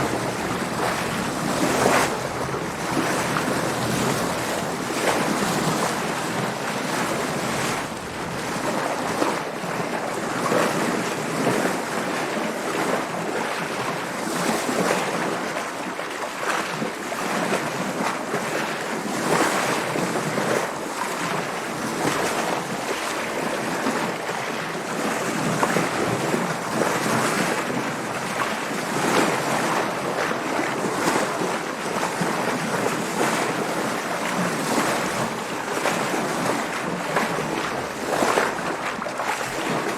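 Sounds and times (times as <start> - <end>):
sea water splashing against boat: 0.0 - 39.9
wind: 0.0 - 39.9.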